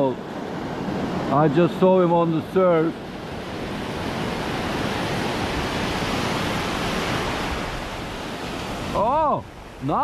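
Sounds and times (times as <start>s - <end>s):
ocean surf washing up beach: 0.0s - 10.0s.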